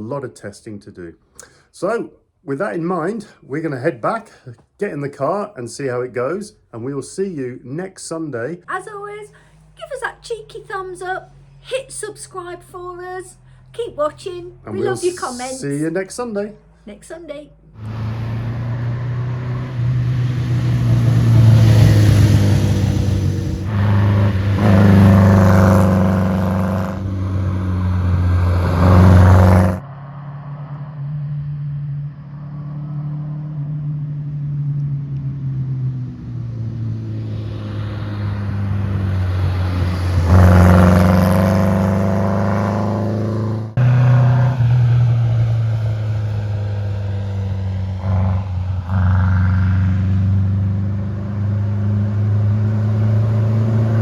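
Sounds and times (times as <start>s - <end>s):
car engine revving: 8.8s - 16.8s, 17.4s - 54.0s.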